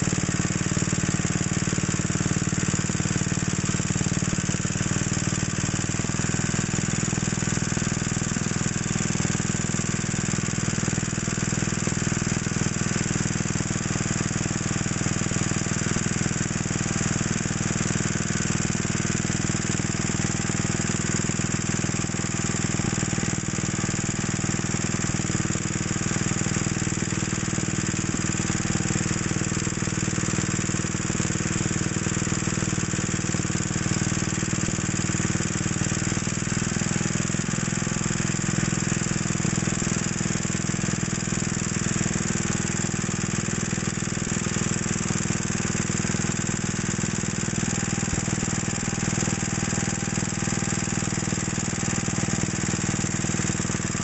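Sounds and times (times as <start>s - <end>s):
single-cylinder engine idling slowly: 0.0s - 54.0s.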